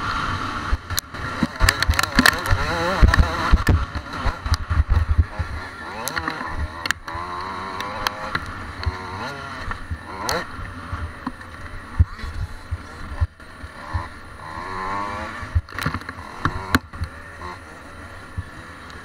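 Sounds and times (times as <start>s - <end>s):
dirt bike engine revving: 0.0s - 19.0s
knocks and rattles from ruts: 0.7s - 17.6s.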